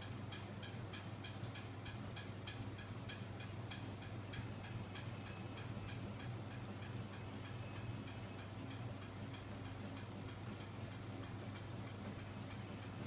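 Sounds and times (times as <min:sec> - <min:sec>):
mechanism ticking: 0:00.0 - 0:13.0.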